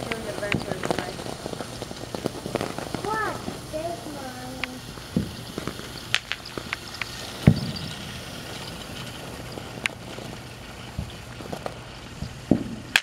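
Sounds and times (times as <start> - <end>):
firework cracks and pops: 0.0 - 13.0
fountain firework hissing: 0.0 - 13.0.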